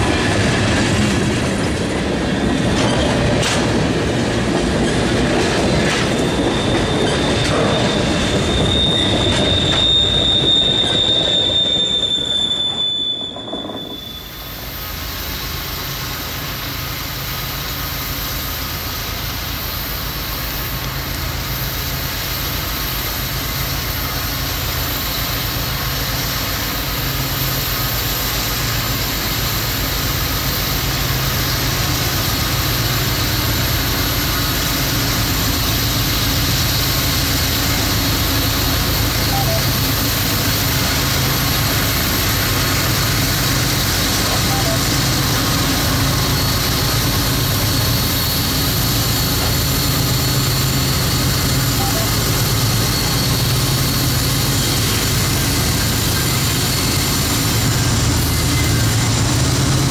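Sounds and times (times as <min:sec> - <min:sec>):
diesel locomotive engines droning: 0:00.0 - 0:59.9.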